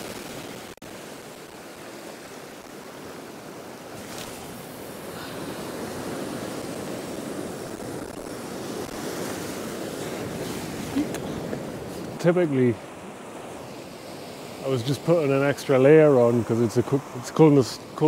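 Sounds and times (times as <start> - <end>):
sea swell washing over rocks: 0.0 - 16.4.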